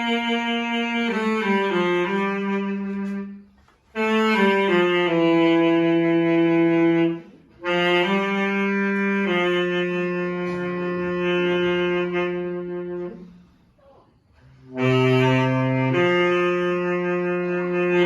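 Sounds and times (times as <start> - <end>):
saxophone slow melody: 0.0 - 13.6, 14.5 - 18.0.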